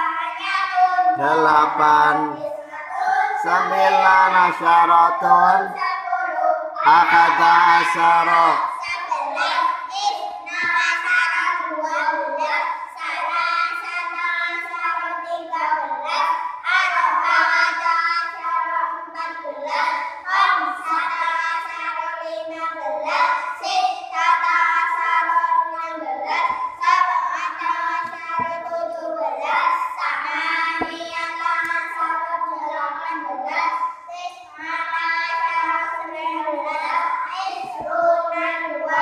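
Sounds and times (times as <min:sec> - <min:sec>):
children singing: 0:00.0 - 0:39.0.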